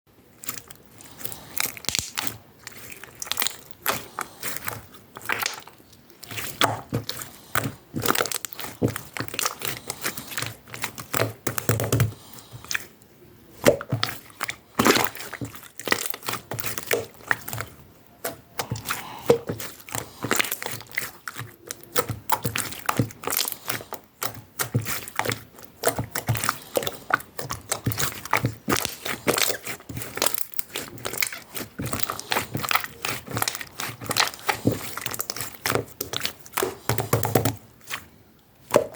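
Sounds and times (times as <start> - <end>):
hands squeezing sticky slime: 0.3 - 38.9.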